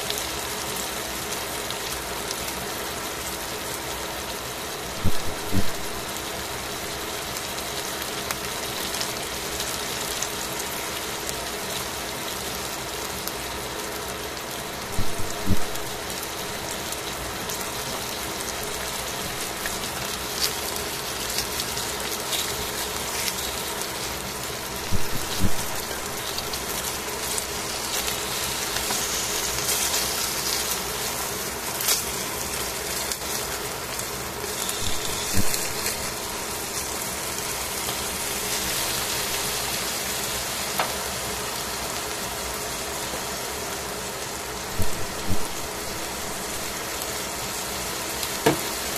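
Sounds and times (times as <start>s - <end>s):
chicken sizzling in a pan: 0.0s - 48.9s.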